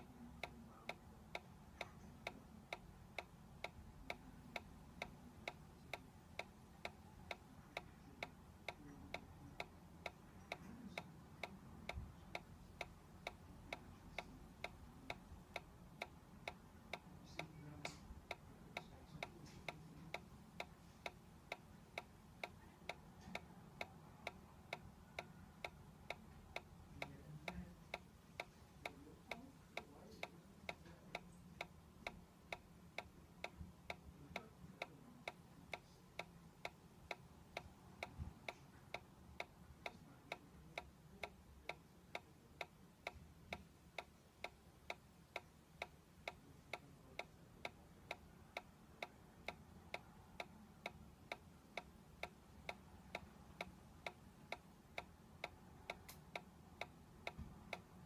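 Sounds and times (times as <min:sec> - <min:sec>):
faint room hum: 0:00.0 - 0:58.0.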